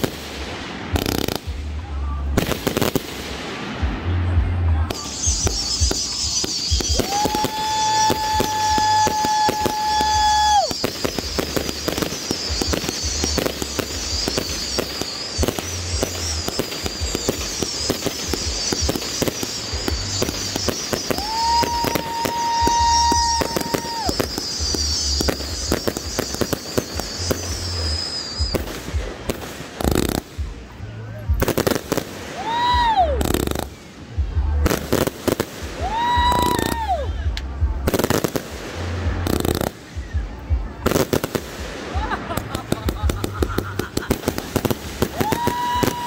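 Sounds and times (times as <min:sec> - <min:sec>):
firework whistling: 0:00.0 - 0:46.0
fireworks popping and banging: 0:00.0 - 0:46.0.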